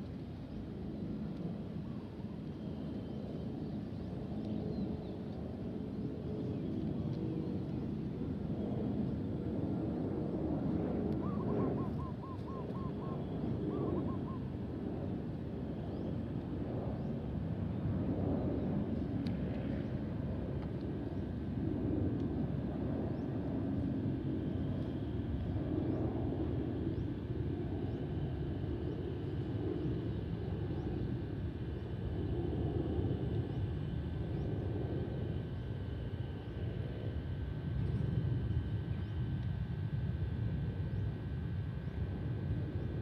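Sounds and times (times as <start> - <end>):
distant jet engine rumble: 0.0 - 43.0.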